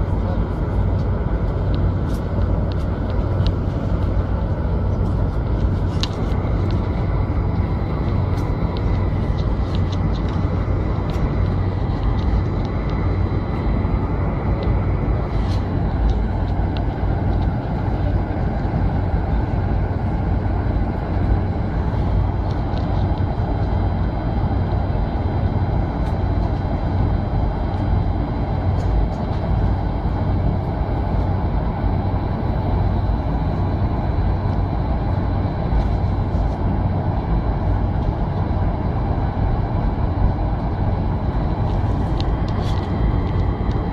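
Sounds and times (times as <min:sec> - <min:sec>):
jet engine cabin rumble: 0:00.0 - 0:43.9.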